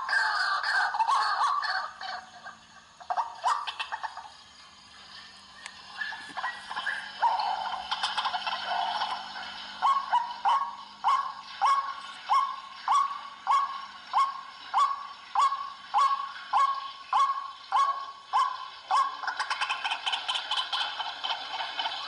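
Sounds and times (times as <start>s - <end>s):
waterhen harsh calls: 0.0s - 4.4s, 5.8s - 22.0s.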